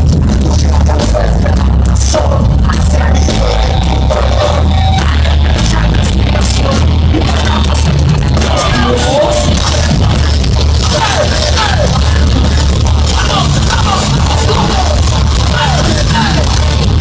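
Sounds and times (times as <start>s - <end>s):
distorted electric guitars: 0.0s - 17.0s
heavy bass: 0.0s - 17.0s
pounding drums: 0.0s - 17.0s.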